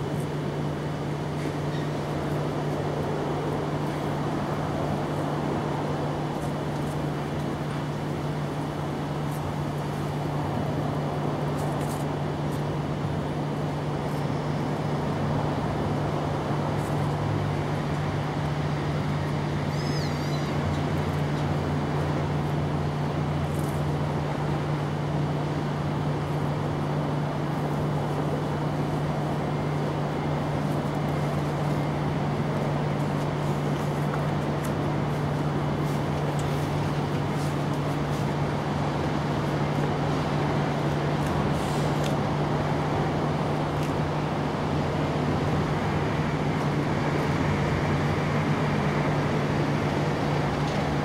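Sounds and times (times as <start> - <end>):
mechanical hum: 0.0 - 51.0.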